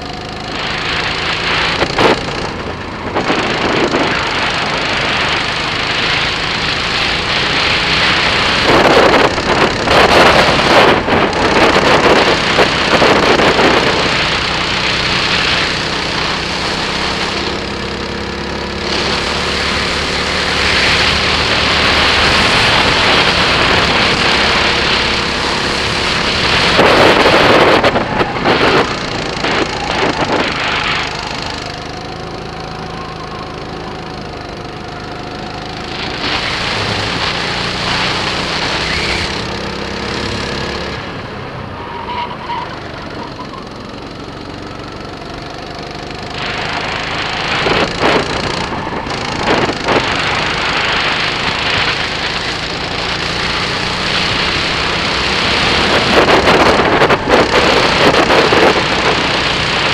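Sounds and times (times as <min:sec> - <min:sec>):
wind on microphone: 0:00.0 - 0:34.4, 0:45.6 - 0:59.9
kart engine running: 0:00.0 - 0:59.9.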